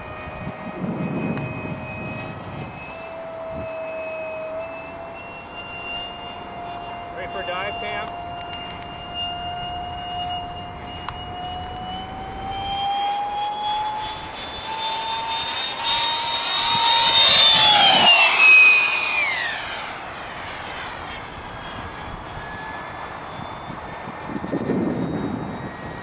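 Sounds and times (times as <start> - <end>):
model jet fan whining: 0.0 - 26.0.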